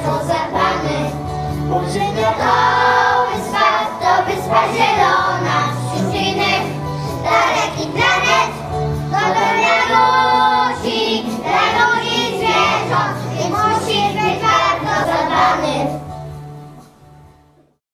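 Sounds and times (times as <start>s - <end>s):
children singing together: 0.0s - 16.1s
instrumental accompaniment: 0.0s - 17.8s.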